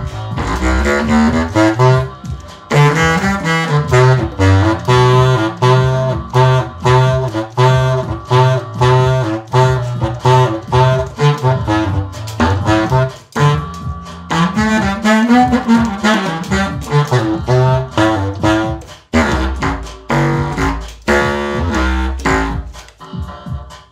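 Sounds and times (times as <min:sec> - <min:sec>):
bass line: 0:00.0 - 0:23.9
clarinet melody: 0:00.0 - 0:23.9
drum beat: 0:00.0 - 0:23.9.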